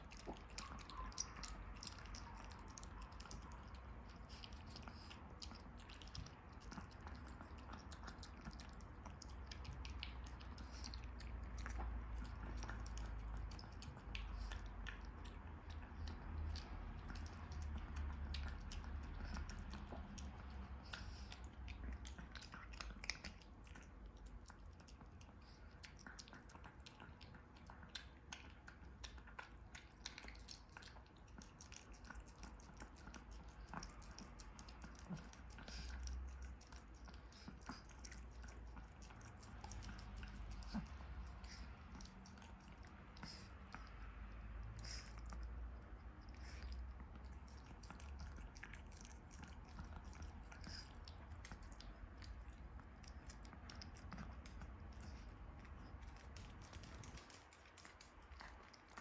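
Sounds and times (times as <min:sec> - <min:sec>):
dog chewing with mouth clicks: 0:00.0 - 0:59.0.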